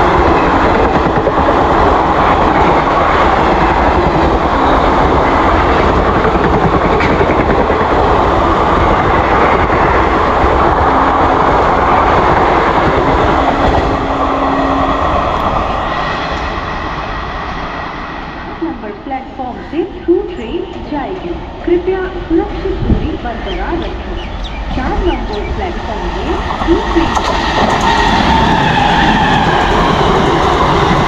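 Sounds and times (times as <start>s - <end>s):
train coaches rushing past: 0.0s - 31.0s.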